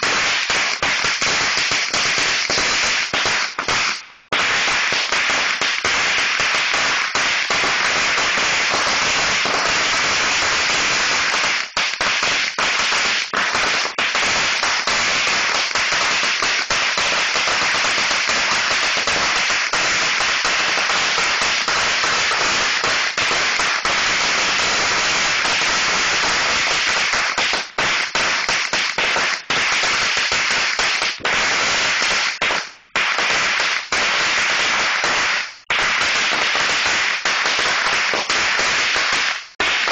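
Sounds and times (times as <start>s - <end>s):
firecrackers rapid crackle: 0.0s - 39.9s.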